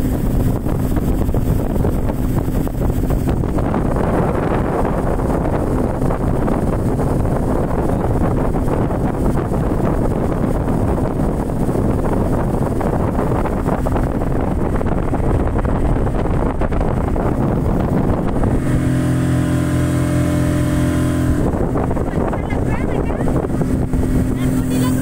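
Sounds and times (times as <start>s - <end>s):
speedboat engine: 0.0s - 25.0s
wind buffeting microphone: 0.0s - 25.0s.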